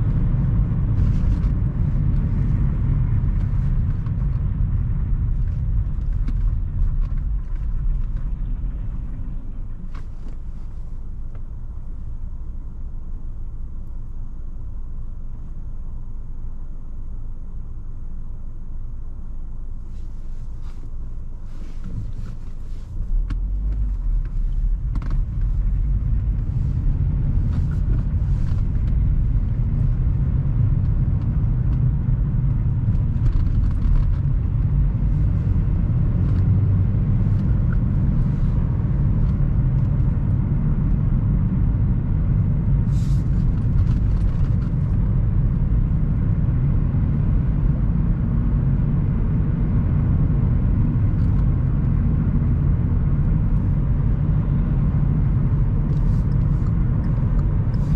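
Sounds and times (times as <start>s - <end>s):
car engine and road noise: 0.0s - 57.9s.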